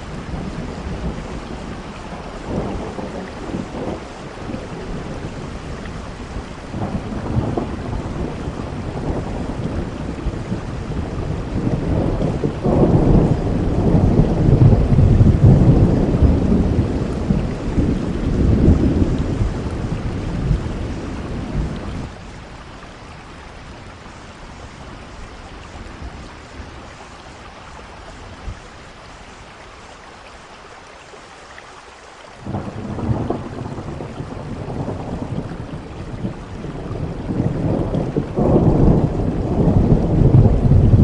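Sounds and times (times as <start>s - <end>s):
rain on concrete roof: 0.0s - 41.0s.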